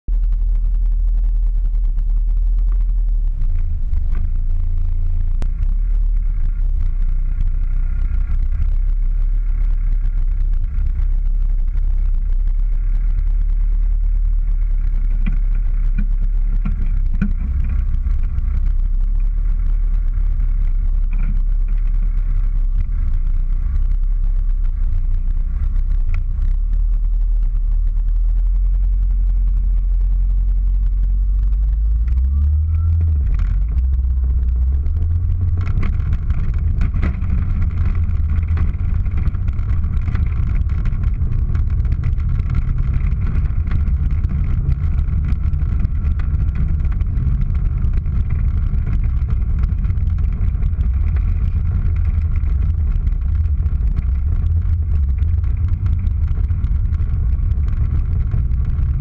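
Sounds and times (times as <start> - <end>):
race car engine idling: 0.0 - 59.0.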